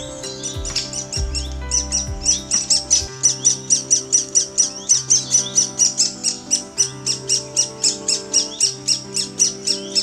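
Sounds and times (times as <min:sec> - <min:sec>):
background music chords: 0:00.0 - 0:10.0
woodpecker nestlings begging calls: 0:00.0 - 0:10.0.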